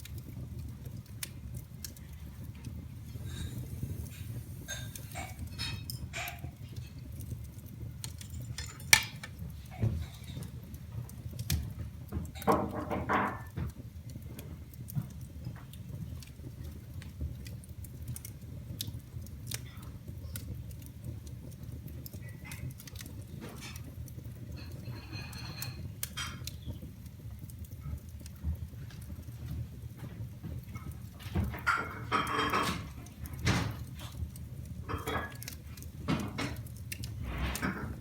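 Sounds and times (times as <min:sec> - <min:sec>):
fire crackling in fireplace: 0:00.0 - 0:38.0.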